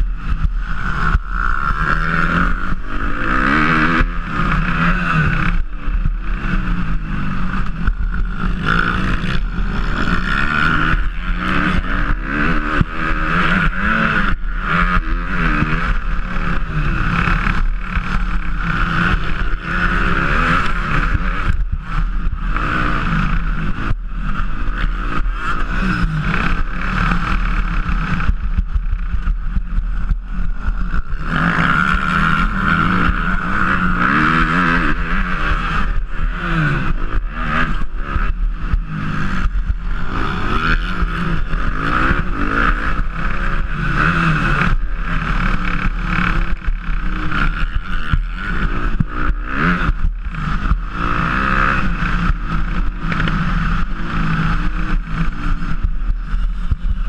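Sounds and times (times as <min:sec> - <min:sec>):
motocross bike engine revving: 0:00.0 - 0:57.0
wind on camera: 0:00.0 - 0:57.0.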